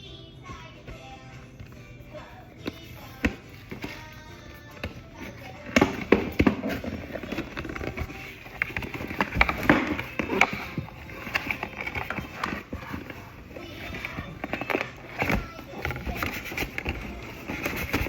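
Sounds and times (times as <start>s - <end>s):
boxes and small items handled: 0.0s - 18.0s.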